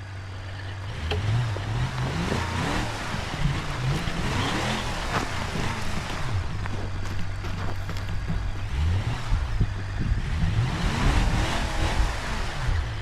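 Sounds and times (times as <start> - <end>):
simulated engine revving: 0.0 - 13.0.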